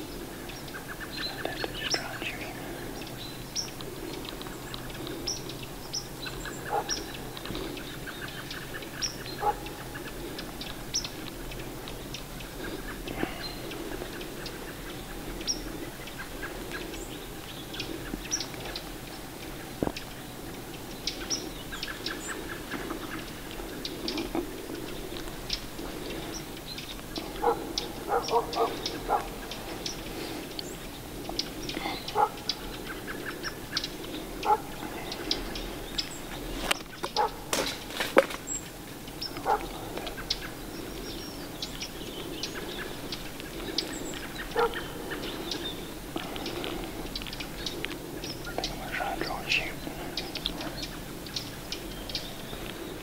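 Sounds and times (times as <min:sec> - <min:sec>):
outdoor ambience: 0:00.0 - 0:53.0
small birds chirping: 0:00.0 - 0:53.0.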